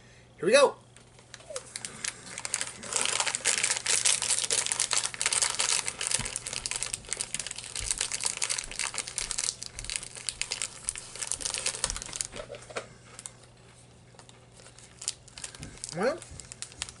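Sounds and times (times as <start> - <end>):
packaging crinkling: 1.0 - 17.0.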